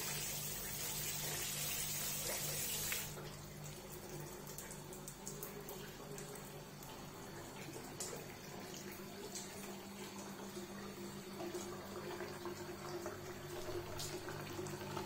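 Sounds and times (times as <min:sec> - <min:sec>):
tap running into basin: 0:00.0 - 0:15.0.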